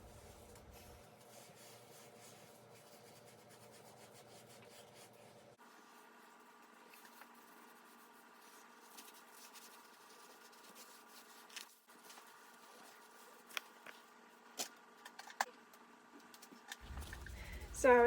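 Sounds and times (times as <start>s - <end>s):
wiping and rubbing on fridge: 0.0s - 14.5s, 16.8s - 18.0s
faint steady hum: 0.0s - 18.0s.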